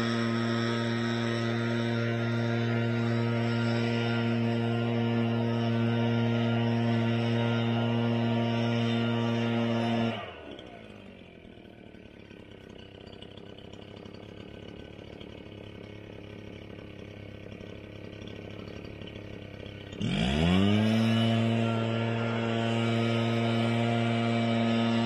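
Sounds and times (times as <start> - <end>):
leaf blower engine idling and revving: 0.0 - 25.0.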